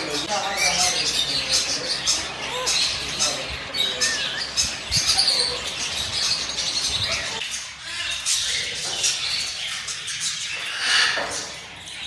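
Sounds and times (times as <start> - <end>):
caged birds chirping and squawking: 0.0 - 12.0.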